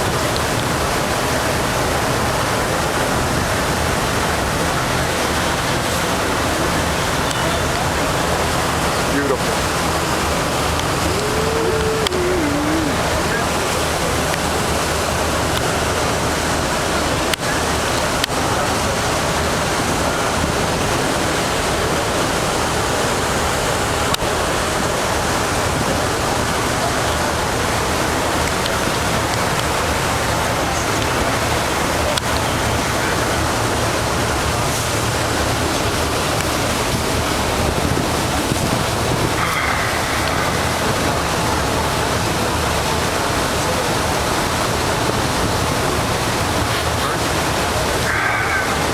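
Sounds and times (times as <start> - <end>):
ferry engine hum: 0.0 - 48.9
rushing water: 0.0 - 48.9
wind: 0.0 - 48.9.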